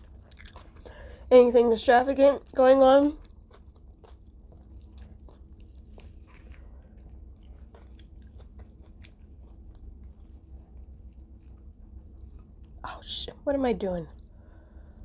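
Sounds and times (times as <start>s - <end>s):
chewing crispy fried chicken: 0.0s - 13.3s
low hum: 0.0s - 15.0s.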